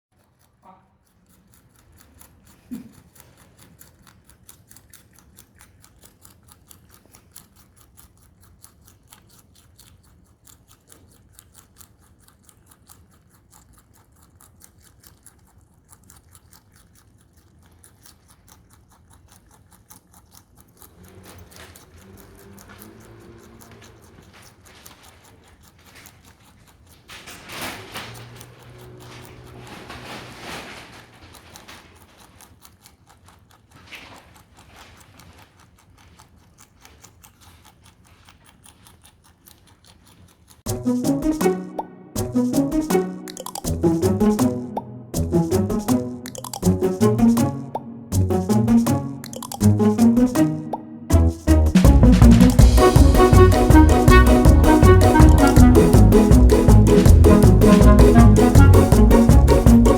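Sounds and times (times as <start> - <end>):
rabbit chewing celery: 0.0 - 59.9.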